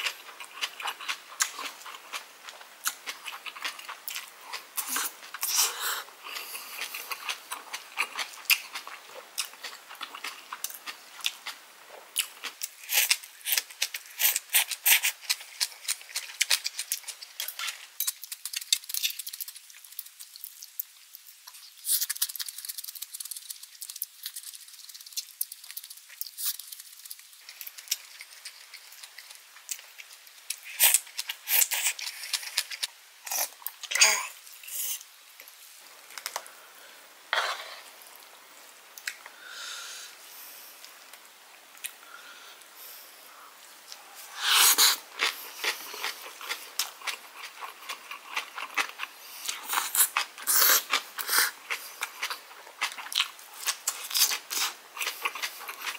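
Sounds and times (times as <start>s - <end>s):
chewing and crunching food: 0.0s - 34.0s, 43.8s - 55.9s.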